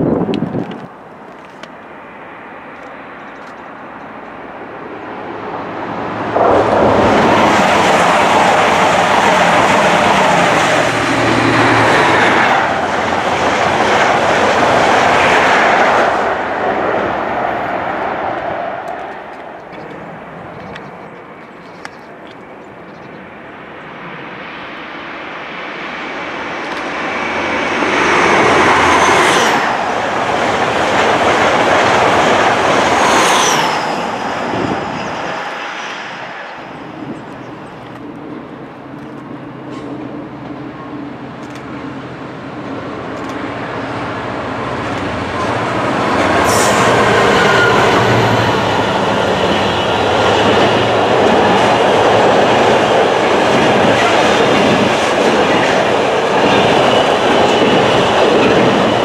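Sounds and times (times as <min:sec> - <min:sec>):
freight train rolling past: 0:00.0 - 0:59.0
train passing at speed: 0:00.0 - 0:59.0.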